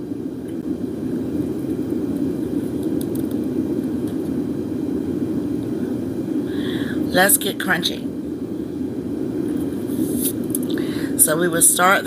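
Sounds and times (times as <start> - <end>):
low rushing background noise: 0.0 - 12.0.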